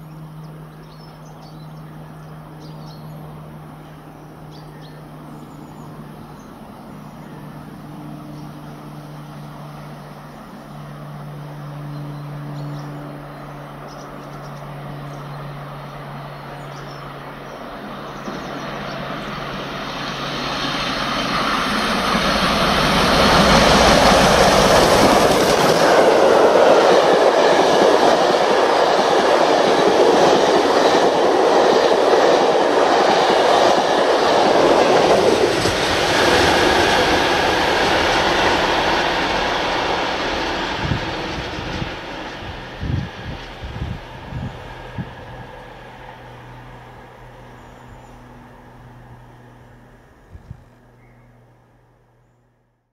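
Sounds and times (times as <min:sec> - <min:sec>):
steam train passing at speed: 0:00.0 - 0:51.6
diesel train engine humming: 0:00.0 - 0:52.4.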